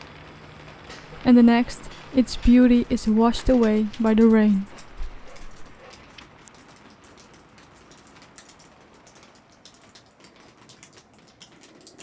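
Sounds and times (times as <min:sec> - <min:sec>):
faint steady hiss: 0:00.0 - 0:12.0
rain drops ticking: 0:00.0 - 0:12.0.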